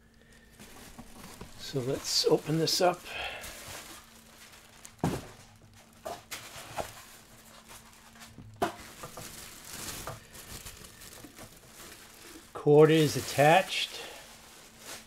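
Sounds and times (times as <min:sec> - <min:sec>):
plastic wrapping crinkling: 0:00.1 - 0:15.0.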